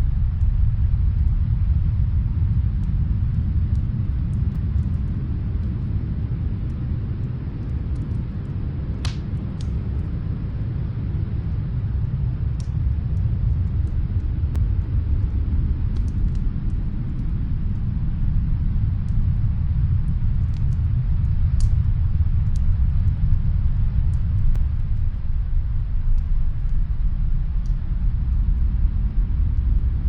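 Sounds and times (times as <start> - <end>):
snowstorm wind rumble: 0.0 - 30.0
wood fire crackling: 0.0 - 30.0.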